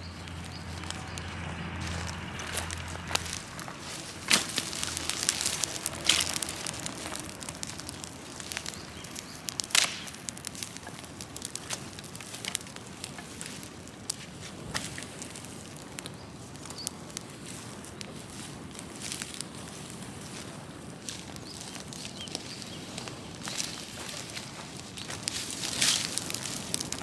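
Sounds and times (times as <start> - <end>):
fire popping: 0.0 - 27.0
wood fire crackling: 0.0 - 27.0.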